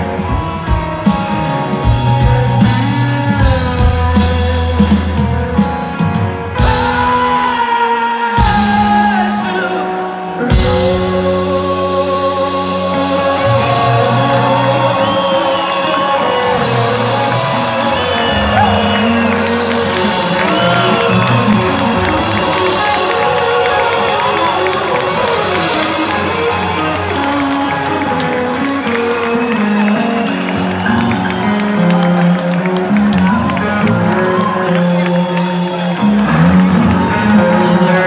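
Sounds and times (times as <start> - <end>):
rock band playing live: 0.0 - 38.0.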